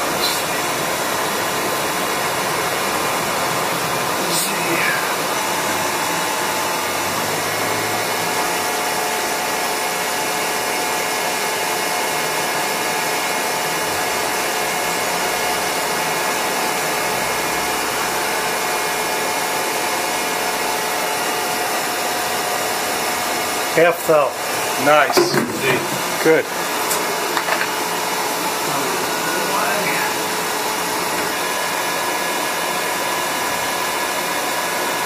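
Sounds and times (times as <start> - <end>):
machining center whirring: 0.0 - 35.0.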